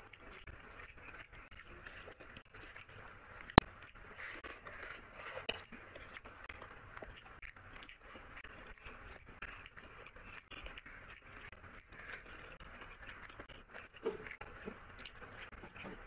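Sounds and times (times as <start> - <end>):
person chewing: 0.0 - 16.0
wet mouth clicks and smacks: 0.1 - 15.9.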